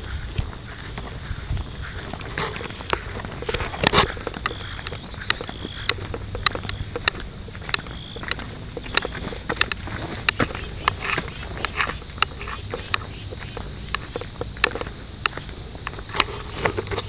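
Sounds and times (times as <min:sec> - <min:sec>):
footstep scuffle: 0:00.0 - 0:17.0
footsteps on a path: 0:00.0 - 0:17.0
low wind rumble: 0:00.0 - 0:17.0.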